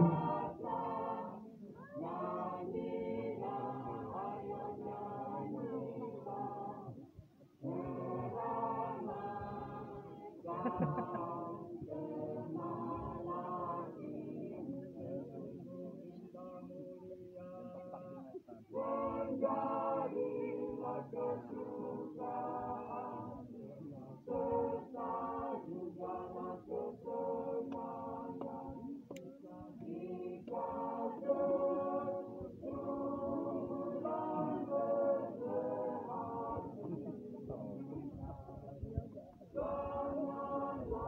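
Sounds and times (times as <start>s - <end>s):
a cappella choir singing: 0.0s - 41.0s.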